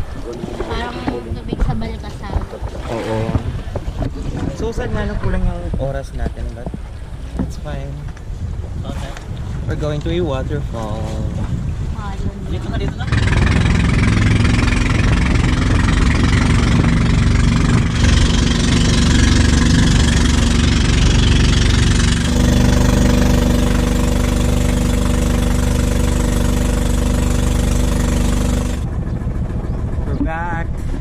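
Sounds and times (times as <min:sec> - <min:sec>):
boat engine running: 0:00.0 - 0:31.0
water noise: 0:00.0 - 0:31.0
wind: 0:00.0 - 0:31.0.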